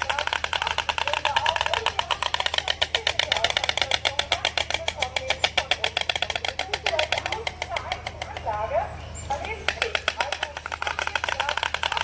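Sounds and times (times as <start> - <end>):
stork clattering its bill: 0.0 - 12.0.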